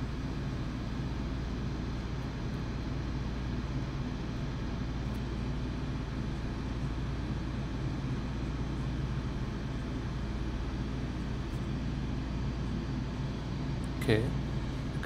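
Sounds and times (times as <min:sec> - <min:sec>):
room hum and hiss: 0:00.0 - 0:15.0.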